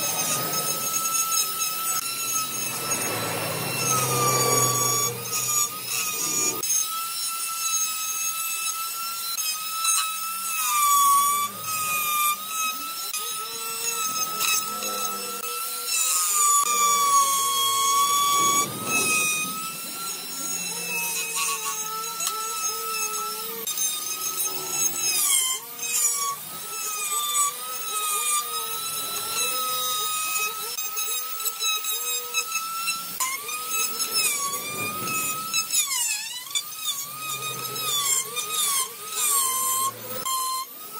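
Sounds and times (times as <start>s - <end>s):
die grinder cutting wood: 0.0s - 40.9s.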